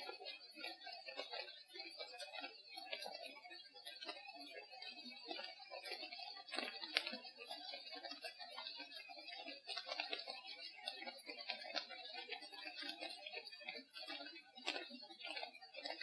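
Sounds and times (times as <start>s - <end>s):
ticking and crackling in forest: 0.0s - 16.0s.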